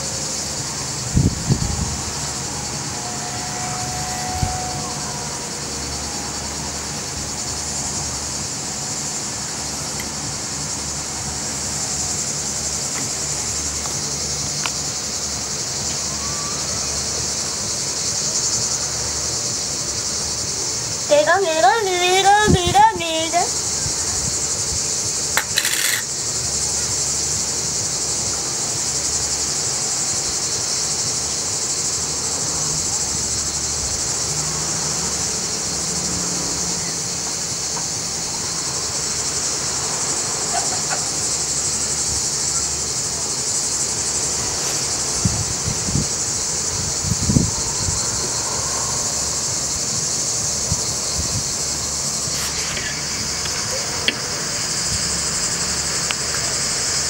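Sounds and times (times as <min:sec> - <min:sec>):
cicadas singing: 0:00.0 - 0:57.0.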